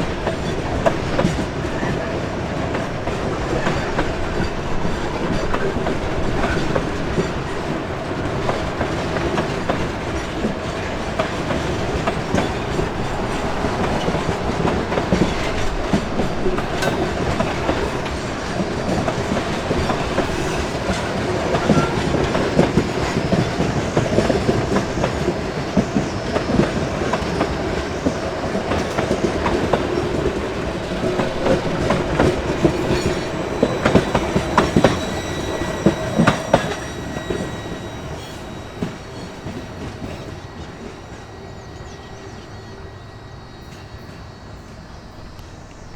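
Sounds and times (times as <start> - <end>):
steel wheels clacking on rail joints: 0.0 - 41.2
train wagons rumbling: 0.0 - 42.8.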